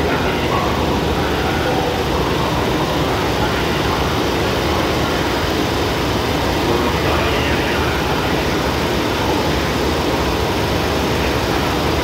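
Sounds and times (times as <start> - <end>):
diesel train engines idling: 0.0 - 12.0.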